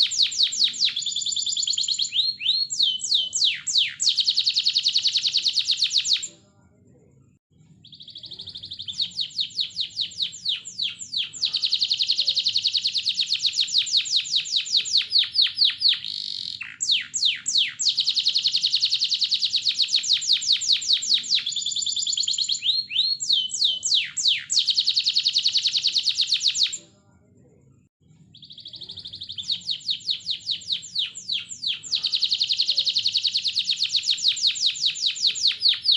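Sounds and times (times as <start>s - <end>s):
canary singing trills: 0.0s - 6.3s, 7.6s - 26.9s, 28.2s - 35.9s.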